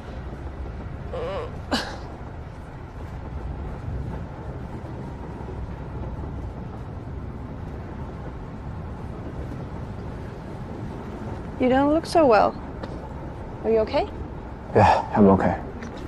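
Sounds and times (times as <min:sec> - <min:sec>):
vehicle cabin road noise: 0:00.0 - 0:16.0.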